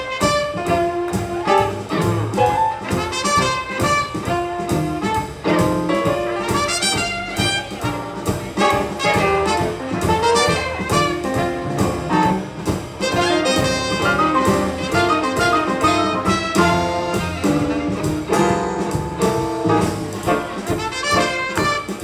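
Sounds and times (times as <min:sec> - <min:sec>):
swing jazz band playing: 0:00.0 - 0:22.0.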